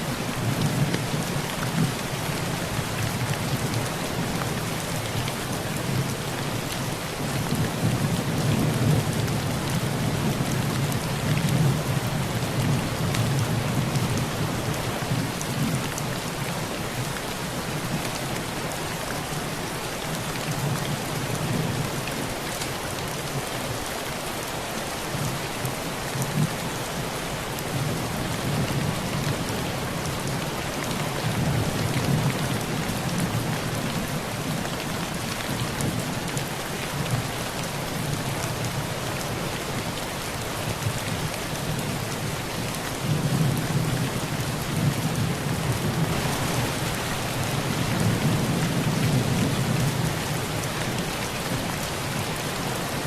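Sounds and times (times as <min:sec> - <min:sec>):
heavy rain on a tin roof: 0:00.0 - 0:53.0.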